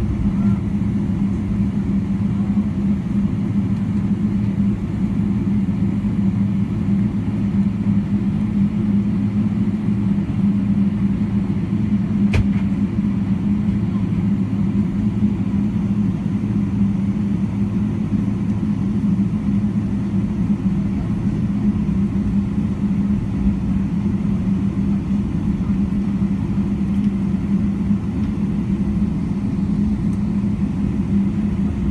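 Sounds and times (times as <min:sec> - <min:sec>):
constant low hum: 0:00.0 - 0:31.9
jet airliner cabin rumble: 0:00.0 - 0:31.9.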